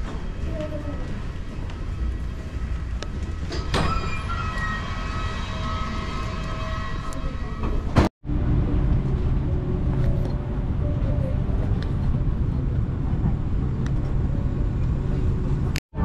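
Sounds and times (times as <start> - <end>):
machinery and ventilation rumble: 0.0 - 5.0, 7.1 - 16.0.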